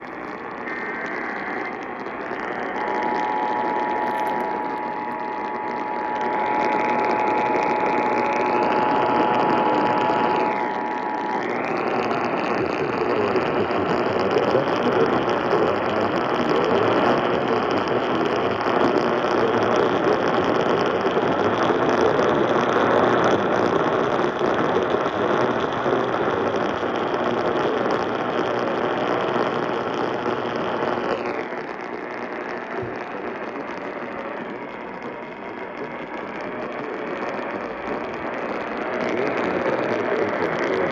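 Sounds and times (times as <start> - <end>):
radio static: 0.0 - 40.9.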